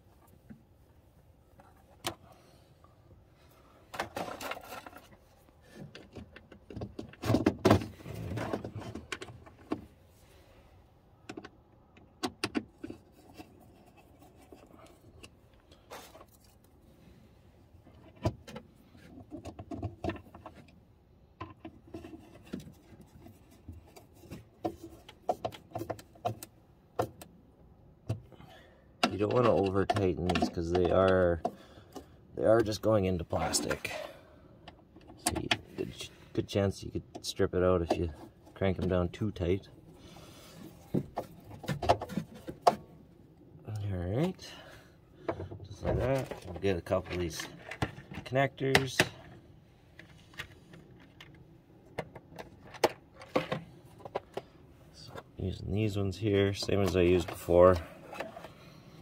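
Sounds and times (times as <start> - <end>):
clicks and rattles of hand work: 1.5 - 2.4, 3.8 - 10.0, 11.2 - 16.8, 17.8 - 43.0, 45.2 - 55.4, 56.2 - 59.0.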